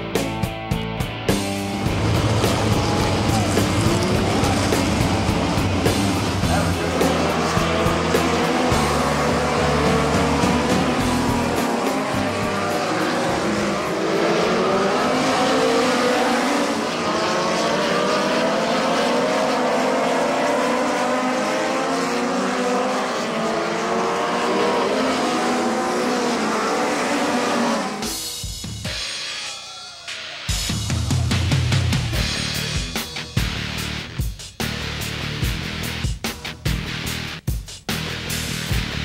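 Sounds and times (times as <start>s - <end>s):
race car engines: 1.1s - 28.3s, 29.6s - 37.4s.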